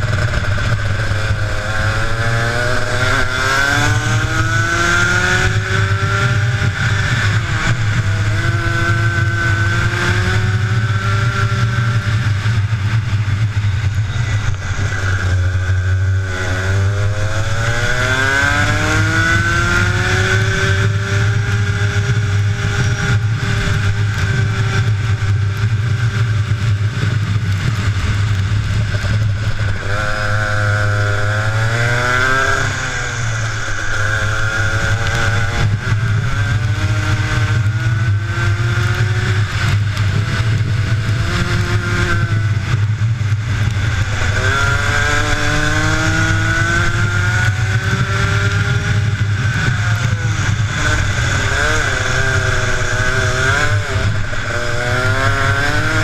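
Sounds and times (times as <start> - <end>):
two-stroke kart engine revving: 0.0 - 56.0.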